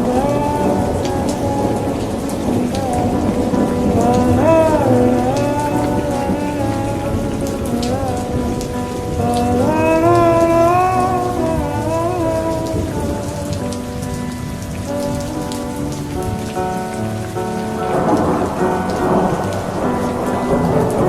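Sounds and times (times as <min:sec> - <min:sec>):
rain pattering: 0:00.0 - 0:21.0
soft music sustained notes: 0:00.0 - 0:21.0
thunder: 0:00.0 - 0:21.0.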